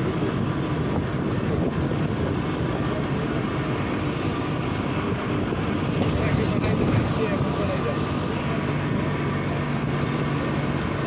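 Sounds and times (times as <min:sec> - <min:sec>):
vehicle rumble from on board: 0:00.0 - 0:11.0.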